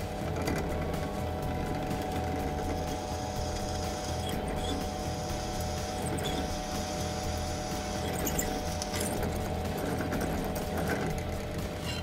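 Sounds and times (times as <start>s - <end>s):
drill press humming and whining: 0.0s - 12.0s.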